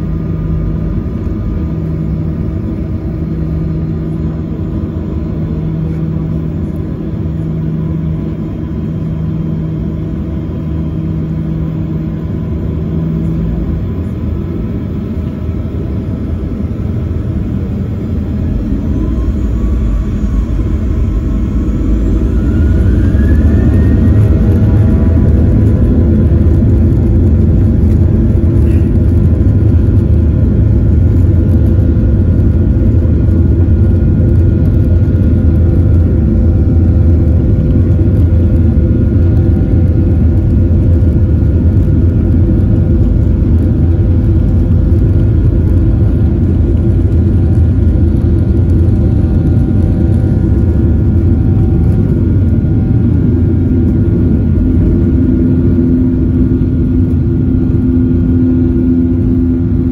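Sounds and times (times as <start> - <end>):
jet engines at takeoff thrust: 0.0 - 59.9.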